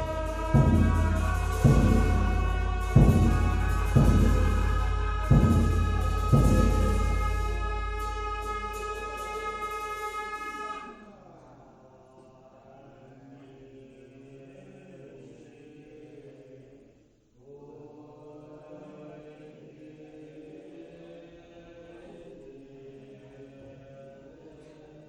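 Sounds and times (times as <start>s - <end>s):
voices chanting in held tones: 0.0s - 25.0s.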